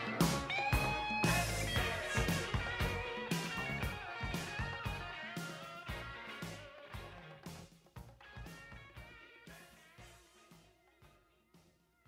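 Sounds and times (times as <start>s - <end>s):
guitar music with drum beat: 0.0s - 12.0s.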